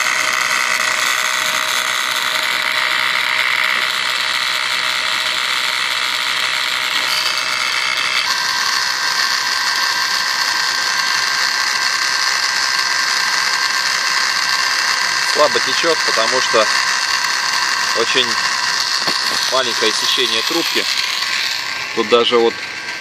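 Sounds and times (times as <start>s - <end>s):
electric pump whining: 0.0s - 23.0s.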